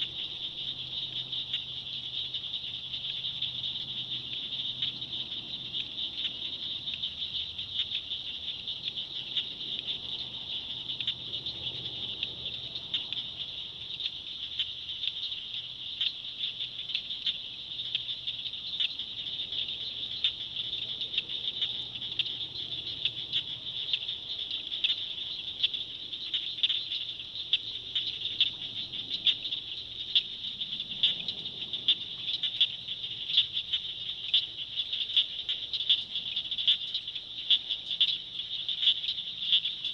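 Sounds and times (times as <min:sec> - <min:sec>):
frogs clicking calls: 0:00.0 - 0:39.9
high-pitched insect trill: 0:00.0 - 0:39.9.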